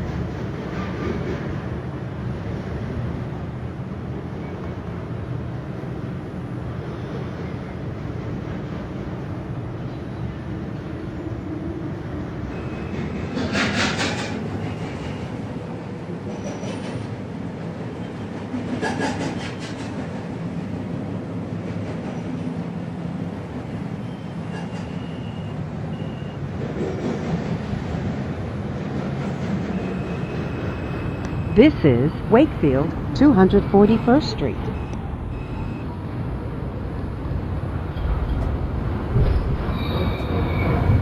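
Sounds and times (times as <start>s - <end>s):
subway car running on track: 0.0s - 41.0s.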